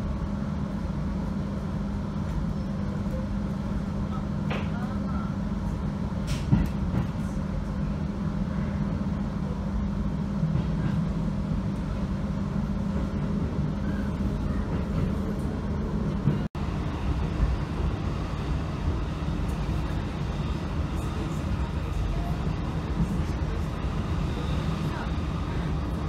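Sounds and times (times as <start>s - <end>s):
train running gear hum and rumble: 0.0s - 26.0s.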